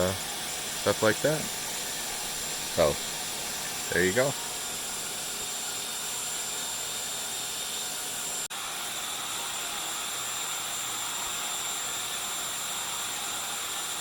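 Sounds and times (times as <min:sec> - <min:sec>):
machine hiss with high whine: 0:00.0 - 0:14.0.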